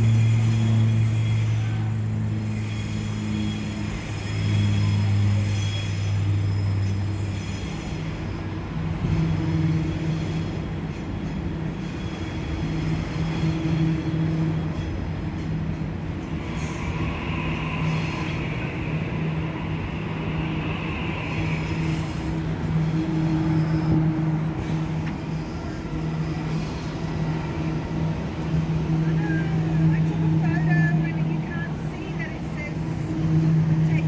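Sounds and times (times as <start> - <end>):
train wheels squealing: 0.0 - 32.1
electric train running: 0.0 - 34.0.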